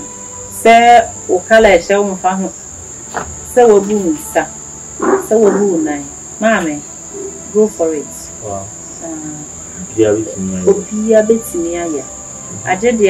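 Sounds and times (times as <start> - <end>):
woman speaking: 0.0 - 2.6, 3.5 - 6.8, 7.5 - 8.4, 9.0 - 13.0
night insects trilling: 0.0 - 13.0.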